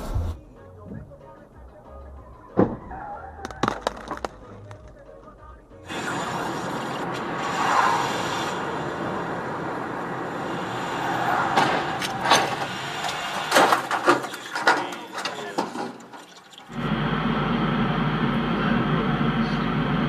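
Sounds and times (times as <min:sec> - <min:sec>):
vehicle and road noise: 0:00.0 - 0:20.0.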